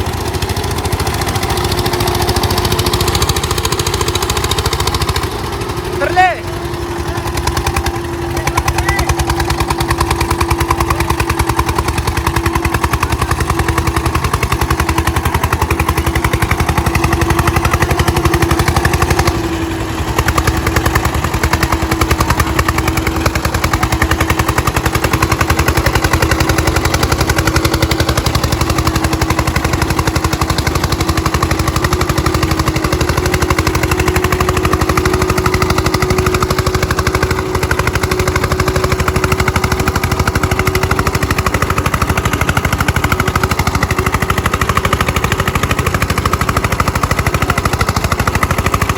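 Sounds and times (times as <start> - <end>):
tractor diesel engines under load: 0.0 - 48.9.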